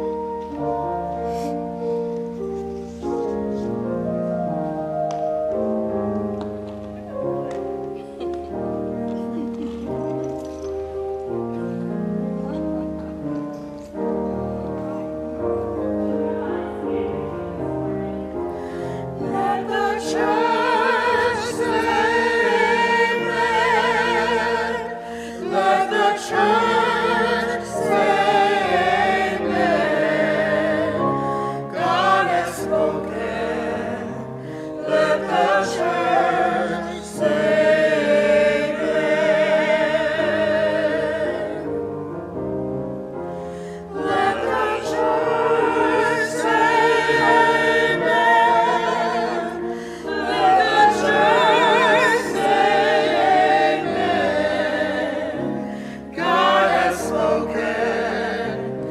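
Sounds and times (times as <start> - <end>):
church choir singing: 0.0 - 58.9
sustained accompaniment: 0.0 - 58.9.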